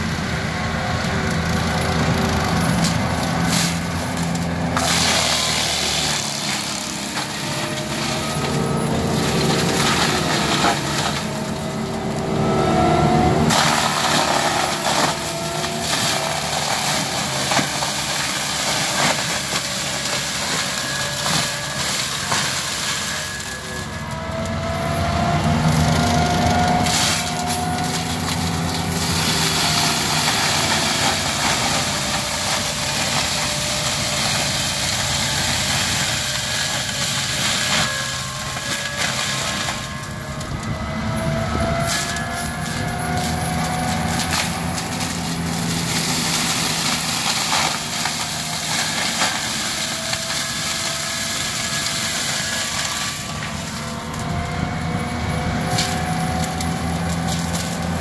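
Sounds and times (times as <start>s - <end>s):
diesel engine running: 0.0s - 58.0s
mulcher grinding wood: 0.0s - 58.0s.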